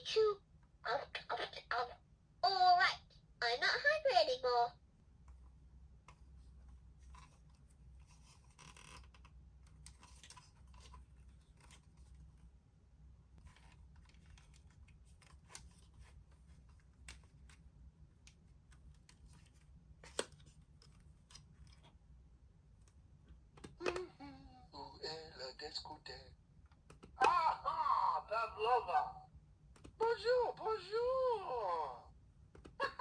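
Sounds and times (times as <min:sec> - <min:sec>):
low room hum: 0:00.0 - 0:33.0.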